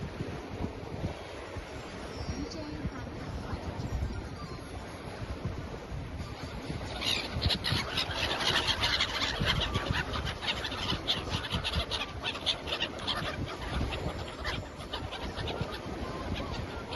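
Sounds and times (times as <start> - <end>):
seabirds calling: 1.0 - 16.9.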